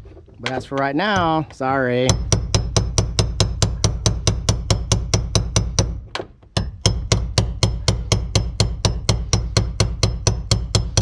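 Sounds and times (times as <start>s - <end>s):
hammer knocking on metal tool: 0.4s - 6.0s, 6.6s - 11.0s.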